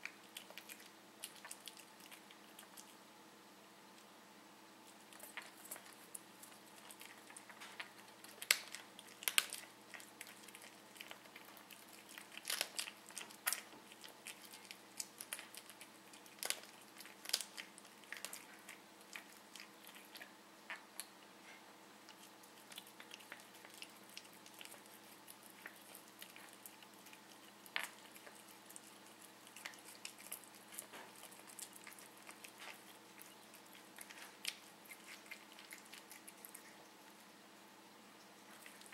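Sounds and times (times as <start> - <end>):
cat chewing with crunches: 0.0 - 4.1, 4.8 - 37.4, 38.2 - 38.9.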